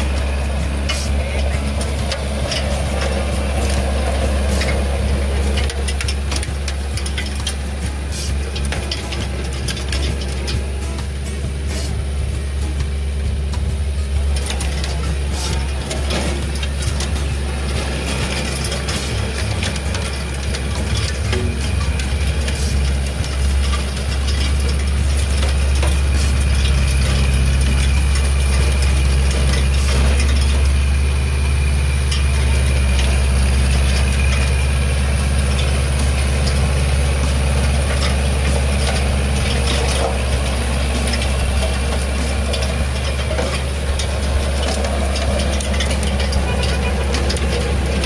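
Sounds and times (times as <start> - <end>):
diesel tractor engine running: 0.0 - 48.0.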